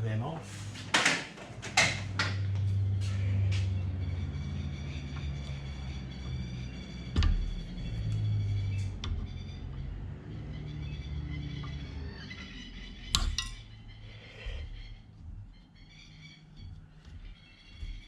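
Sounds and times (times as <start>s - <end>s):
steady low hum: 1.8s - 18.0s.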